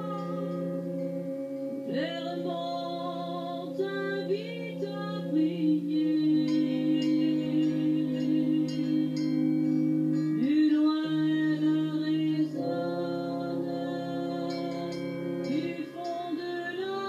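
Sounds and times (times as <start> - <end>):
woman singing: 0.0 - 1.1, 1.8 - 9.6, 10.4 - 17.0
wind band holding chords: 0.0 - 17.0.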